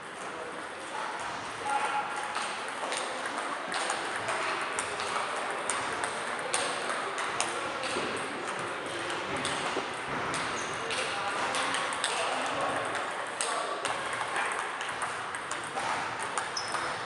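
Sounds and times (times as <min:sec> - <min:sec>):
table tennis balls clicking: 0:02.2 - 0:17.0.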